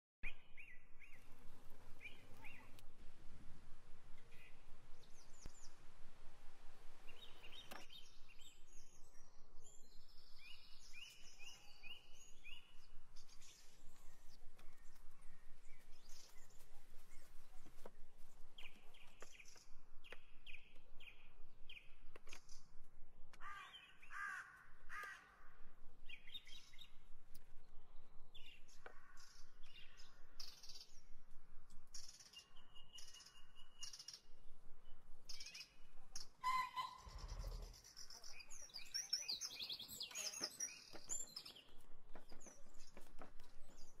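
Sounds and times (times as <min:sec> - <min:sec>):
birds chirping: 0:00.2 - 0:06.0, 0:06.7 - 0:44.0.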